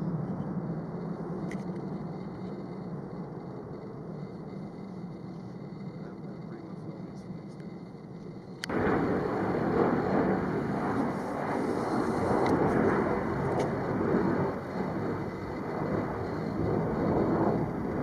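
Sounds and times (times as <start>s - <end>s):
jet engine rumbling: 0.0s - 18.0s.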